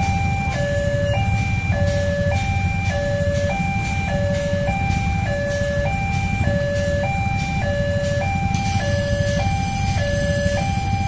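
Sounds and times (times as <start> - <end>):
level crossing two-tone alarm: 0.0 - 11.0
motorcycle engines idling: 0.0 - 11.0.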